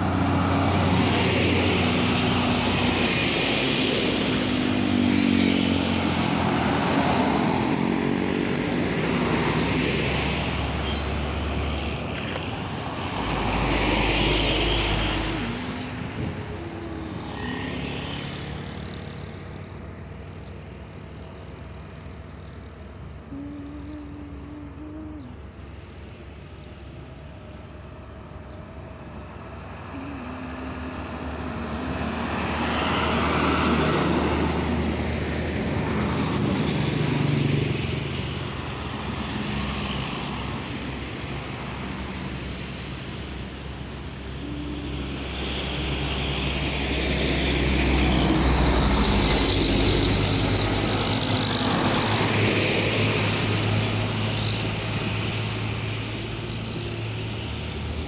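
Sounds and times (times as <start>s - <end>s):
cars driving past: 0.0s - 58.0s
diesel truck passing: 0.0s - 58.0s.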